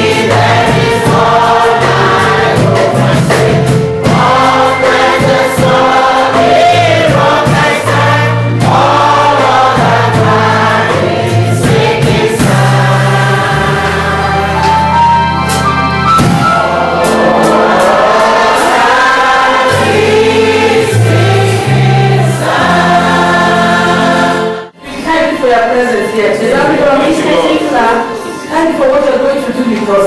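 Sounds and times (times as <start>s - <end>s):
sustained bass accompaniment: 0.0s - 24.8s
choir singing gospel music: 0.0s - 30.0s.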